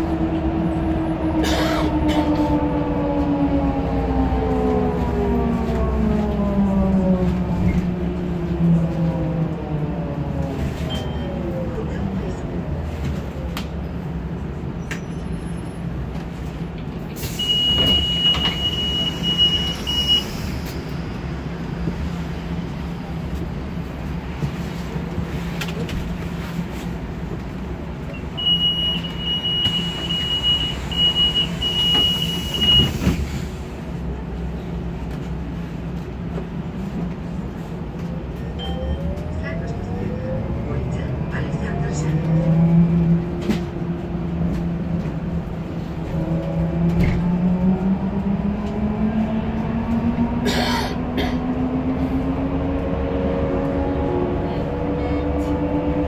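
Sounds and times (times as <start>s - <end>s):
trolleybus interior hum: 0.0s - 56.0s.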